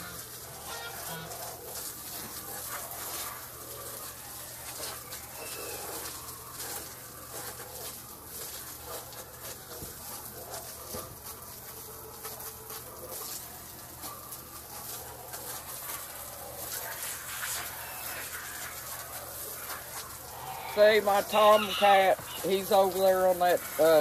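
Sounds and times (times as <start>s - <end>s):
hose water splashing into pool: 0.0s - 24.0s.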